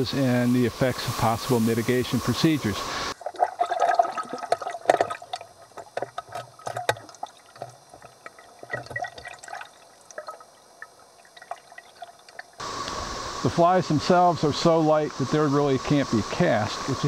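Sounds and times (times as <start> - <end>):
stream water gurgling: 0.0 - 17.0.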